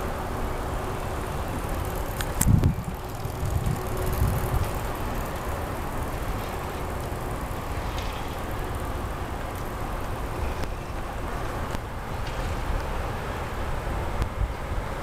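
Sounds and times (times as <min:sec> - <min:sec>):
low rumble of city background: 0:00.0 - 0:15.0.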